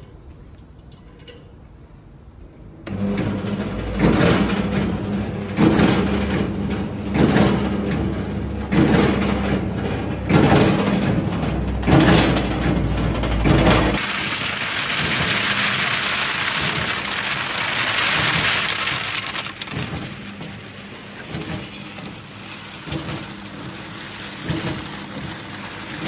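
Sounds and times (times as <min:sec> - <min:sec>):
machine motor hum: 0:02.8 - 0:26.0.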